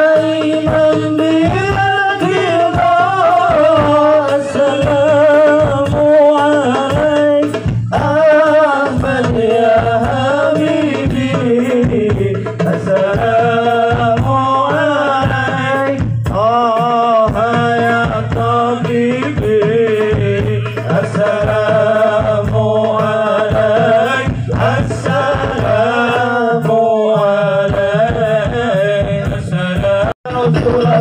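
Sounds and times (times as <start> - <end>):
devotional singing through loudspeakers: 0.0 - 31.0
hand drum beat: 0.0 - 31.0.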